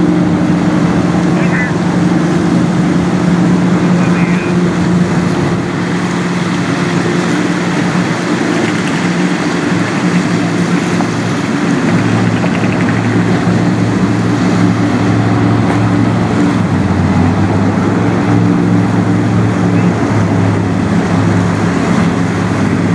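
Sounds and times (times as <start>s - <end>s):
rushing water: 0.0s - 22.9s
ship engine droning: 0.0s - 22.9s.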